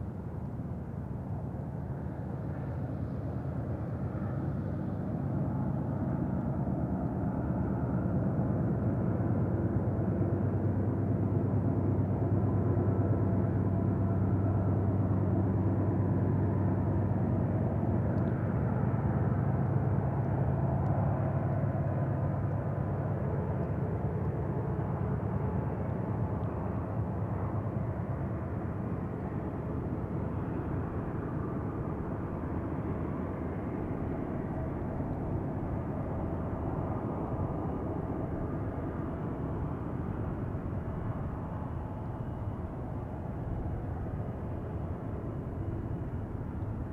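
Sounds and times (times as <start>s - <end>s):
distant diesel locomotive drone: 0.0s - 46.9s.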